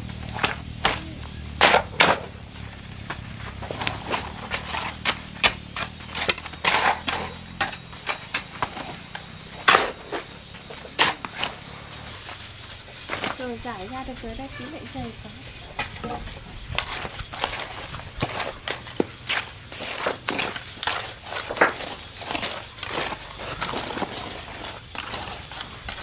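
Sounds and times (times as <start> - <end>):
shovel scraping wet concrete: 3.3 - 26.0.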